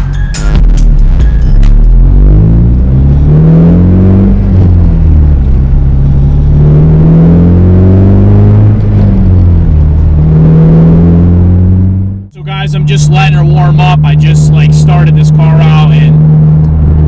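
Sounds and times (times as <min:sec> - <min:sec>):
car engine revving through gears: 0:00.5 - 0:17.0.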